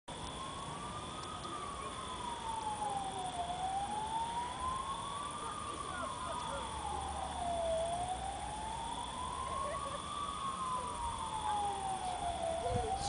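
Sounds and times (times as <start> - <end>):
high-pitched whine: 0.1 - 13.0
siren wailing: 0.1 - 13.0.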